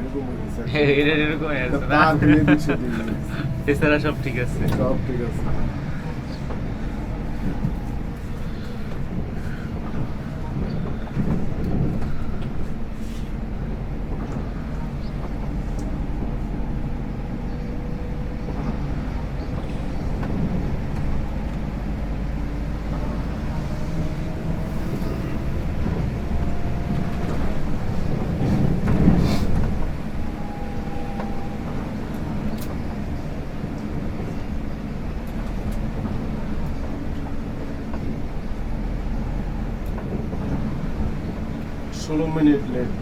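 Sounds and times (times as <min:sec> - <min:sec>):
coach engine rumble and road noise: 0:00.0 - 0:43.0.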